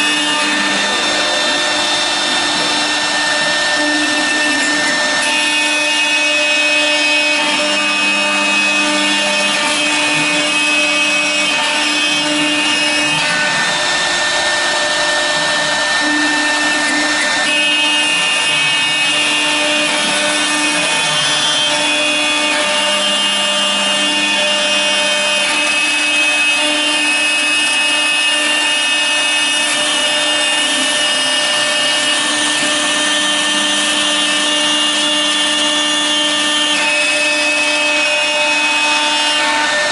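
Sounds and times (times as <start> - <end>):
rough cutting noise: 0.0 - 39.9
router spindle whine: 0.0 - 39.9.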